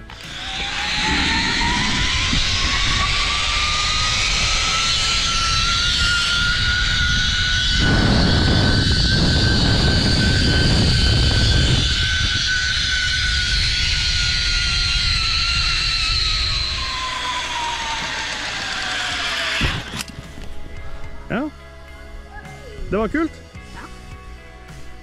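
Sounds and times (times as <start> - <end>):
zipline pulleys whining on cable: 0.0 - 21.2
wind on microphone: 0.0 - 21.3.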